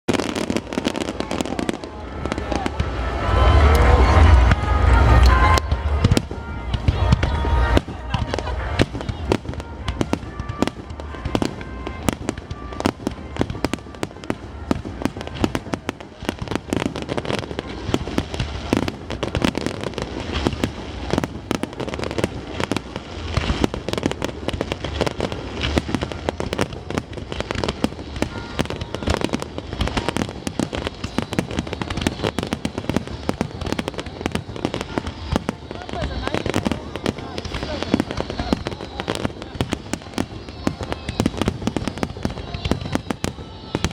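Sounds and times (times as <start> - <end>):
fireworks bangs and crackling: 0.1 - 43.9.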